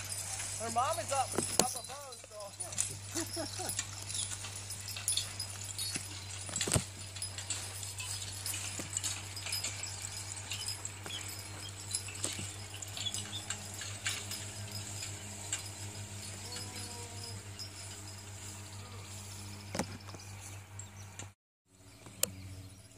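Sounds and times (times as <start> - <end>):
harness and plow clinking: 0.0 - 22.9.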